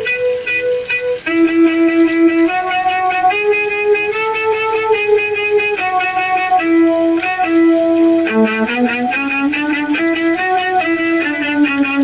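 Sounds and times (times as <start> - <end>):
plucked string accompaniment: 0.0 - 12.0
violin slow melody: 0.0 - 12.0.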